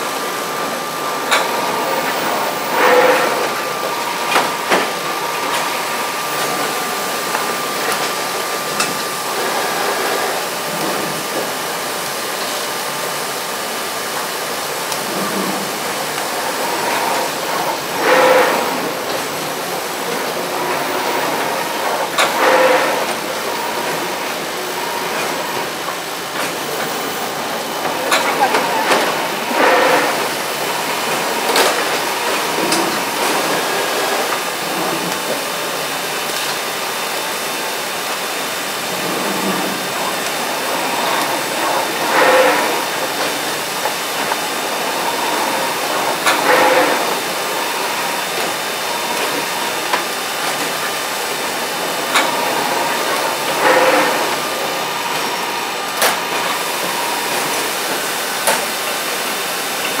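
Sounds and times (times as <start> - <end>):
machine whirring: 0.0 - 60.0.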